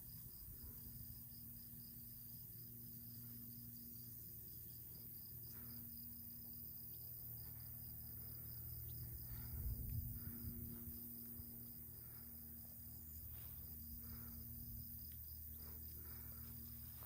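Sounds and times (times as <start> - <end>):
insect chirping trill: 0.0 - 17.0.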